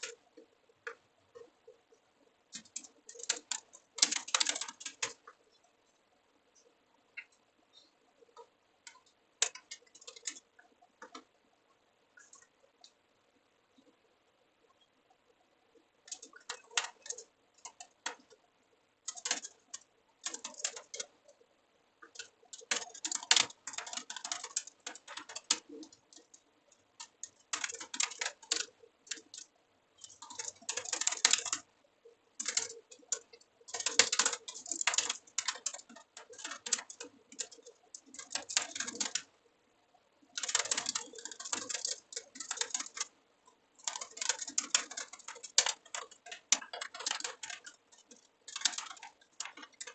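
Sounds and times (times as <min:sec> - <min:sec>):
typing on a computer keyboard: 0:00.0 - 0:01.5, 0:02.5 - 0:05.6, 0:08.4 - 0:11.3, 0:12.2 - 0:13.0, 0:16.0 - 0:21.4, 0:22.0 - 0:31.7, 0:32.3 - 0:39.4, 0:40.2 - 0:49.9.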